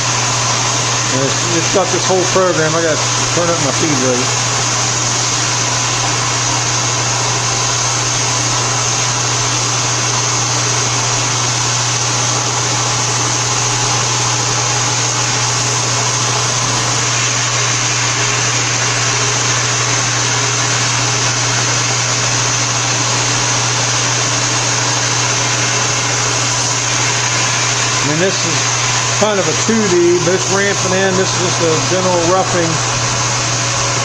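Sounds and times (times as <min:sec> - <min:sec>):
milling machine cutting plastic: 0:00.0 - 0:34.0.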